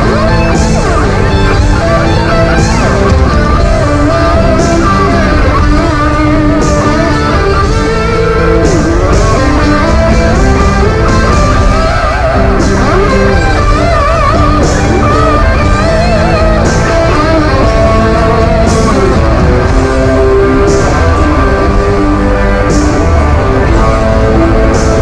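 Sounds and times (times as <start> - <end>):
rock music with electric guitar: 0.0 - 25.0.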